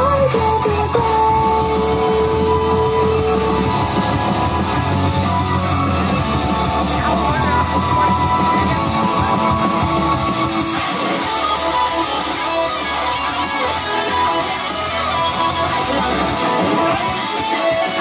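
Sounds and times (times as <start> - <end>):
upbeat pop song over speakers: 0.0 - 18.0.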